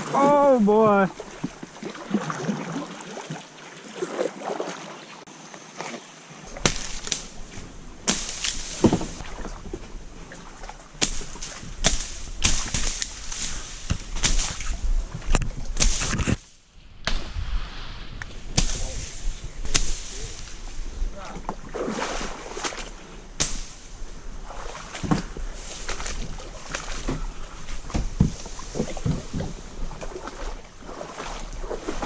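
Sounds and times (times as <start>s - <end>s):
paddle splashing water: 0.0s - 16.4s, 17.1s - 32.0s.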